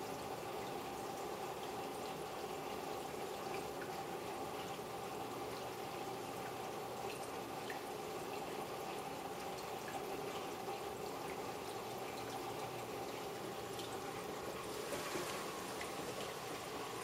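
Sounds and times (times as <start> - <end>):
water bubbling and trickling: 0.0 - 17.0
water drips: 0.0 - 17.0.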